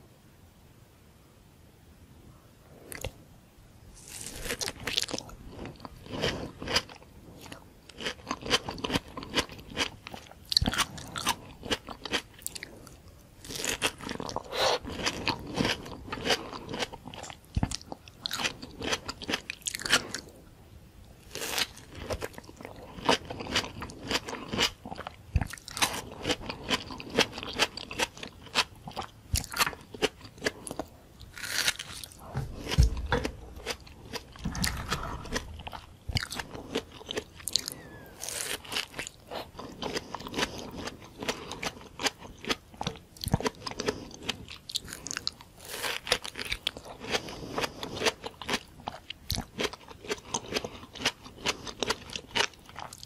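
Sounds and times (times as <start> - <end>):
biting and chewing tomato: 4.0 - 20.4, 21.2 - 53.0.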